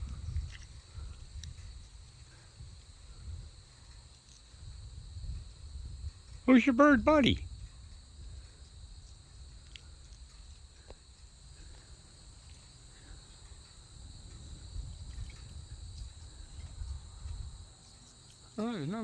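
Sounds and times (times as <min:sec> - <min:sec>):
faint ticks: 0:00.0 - 0:06.4, 0:07.5 - 0:19.0
crickets trilling: 0:00.0 - 0:19.0.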